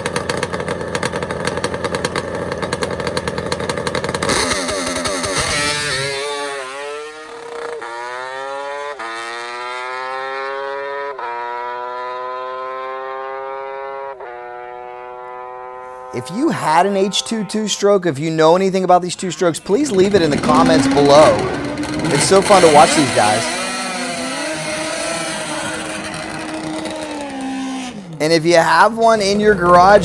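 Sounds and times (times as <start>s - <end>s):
two-stroke motorbike accelerating: 0.0s - 30.0s.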